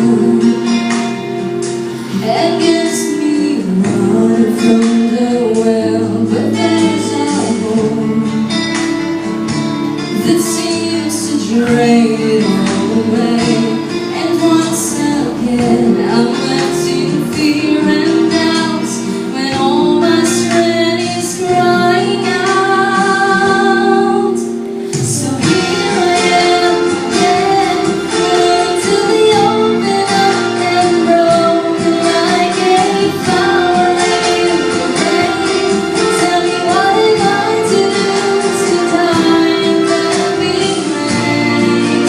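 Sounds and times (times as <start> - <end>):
instrumental accompaniment: 0.0 - 42.0
woman singing: 0.0 - 42.0.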